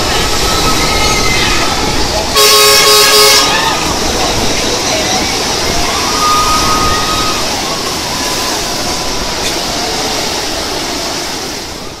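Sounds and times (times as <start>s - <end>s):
surf breaking over rocks: 0.0s - 12.0s.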